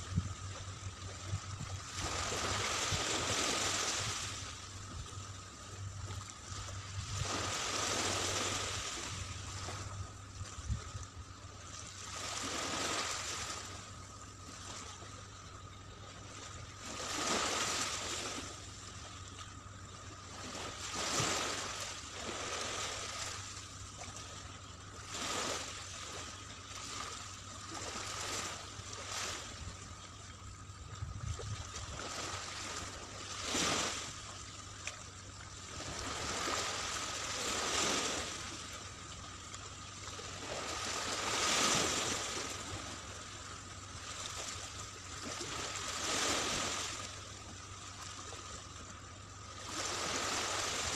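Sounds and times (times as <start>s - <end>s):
small waves lapping on sand: 0.0s - 50.9s.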